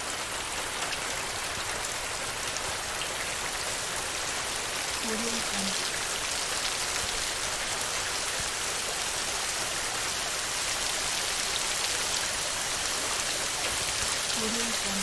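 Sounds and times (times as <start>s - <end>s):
heavy rain on a tin roof: 0.0s - 15.0s.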